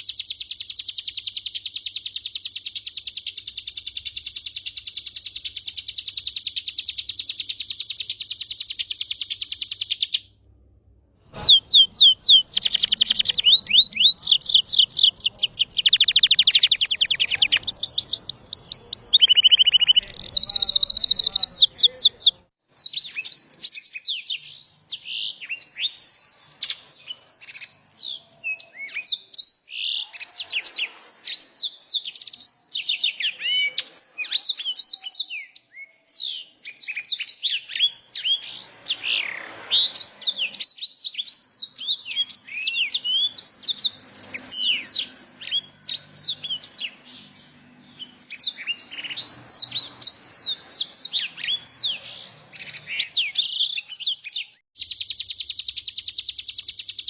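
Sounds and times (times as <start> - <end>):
songbirds whistling: 0.0 - 10.3, 11.3 - 57.0.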